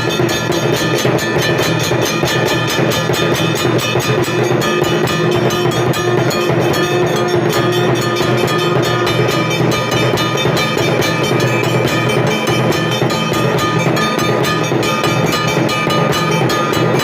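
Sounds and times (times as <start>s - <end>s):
bells rung rapidly: 0.0s - 17.0s.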